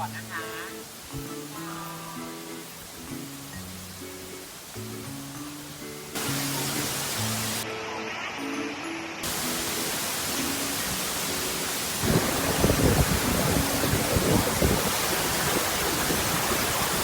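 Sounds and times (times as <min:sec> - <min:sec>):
soft music: 0:00.0 - 0:14.8
waterfall roaring: 0:00.0 - 0:17.0.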